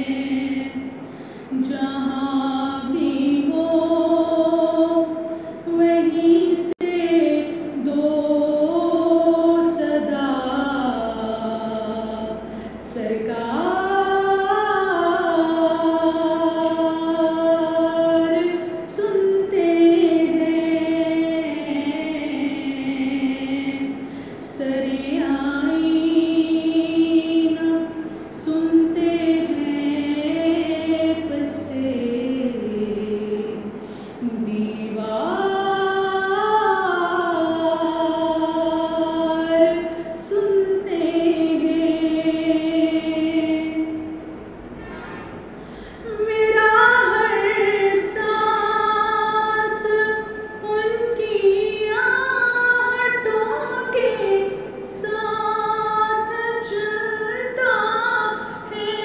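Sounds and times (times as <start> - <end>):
woman singing unaccompanied: 0.0 - 44.5, 45.8 - 59.0.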